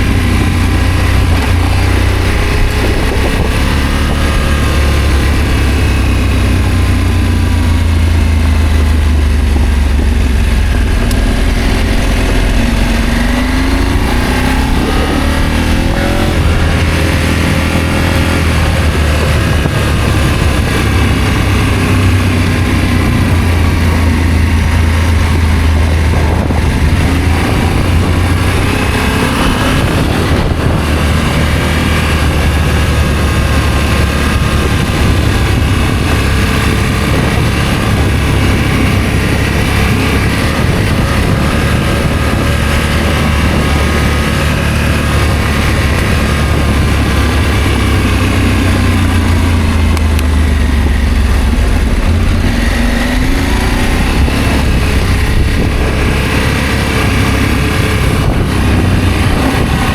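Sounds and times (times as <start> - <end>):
heavy low rumble: 0.0 - 59.9
motorcycle engine running: 0.0 - 59.9.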